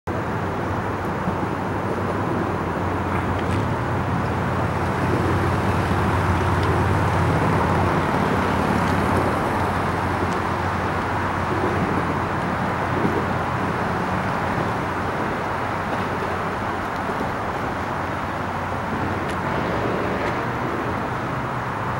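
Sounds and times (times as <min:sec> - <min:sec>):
low engine hum: 0:00.1 - 0:21.9
road traffic noise: 0:00.1 - 0:21.9.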